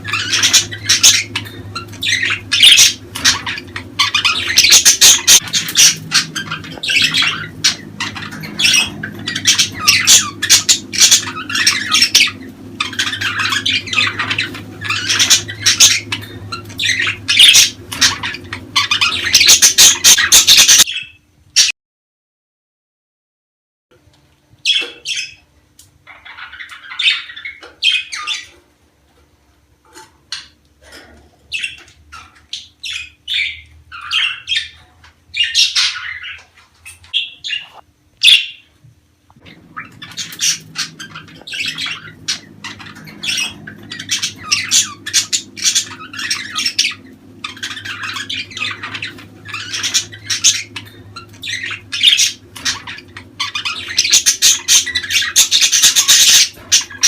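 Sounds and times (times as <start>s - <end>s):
budgerigars chattering and squawking: 0.0s - 21.7s, 24.7s - 28.6s, 29.9s - 38.7s, 39.4s - 57.0s.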